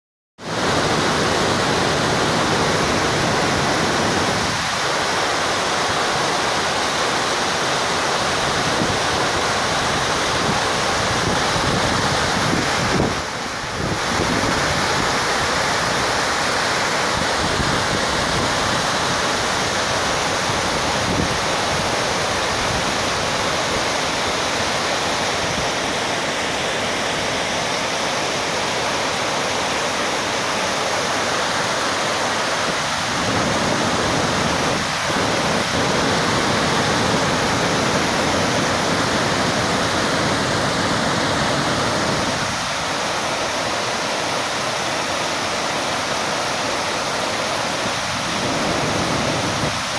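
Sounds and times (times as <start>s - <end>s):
river water rushing over weir: 0.4s - 49.9s.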